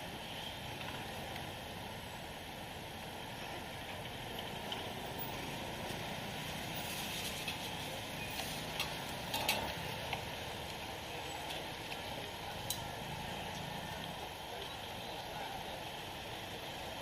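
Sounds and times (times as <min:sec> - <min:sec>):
busy street food stall hum: 0:00.0 - 0:17.0.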